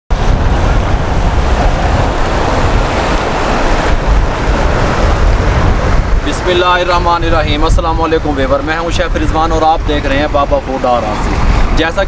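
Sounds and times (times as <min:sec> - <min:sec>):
river rushing over rocks: 0:00.1 - 0:12.0
wind buffeting microphone: 0:00.1 - 0:12.0.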